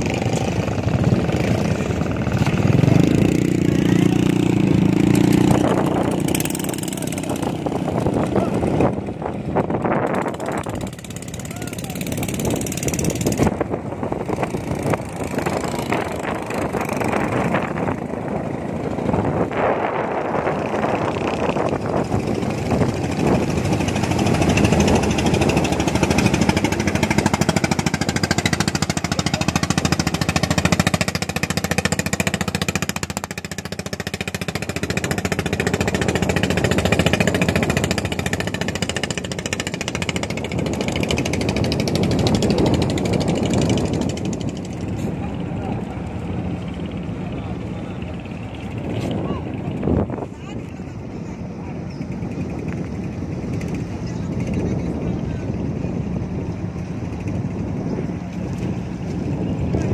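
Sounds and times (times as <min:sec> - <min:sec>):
boat engine knocking steadily: 0:00.0 - 0:59.9.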